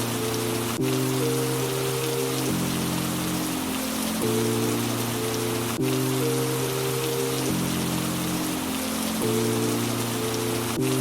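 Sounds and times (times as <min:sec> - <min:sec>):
steady rainfall: 0:00.0 - 0:11.0
synthesizer chords: 0:00.0 - 0:11.0.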